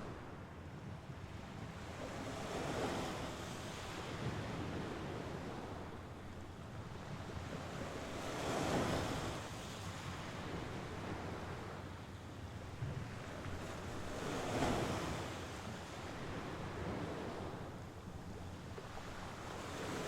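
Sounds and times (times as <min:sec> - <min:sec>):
sea waves breaking on shore: 0:01.3 - 0:20.0.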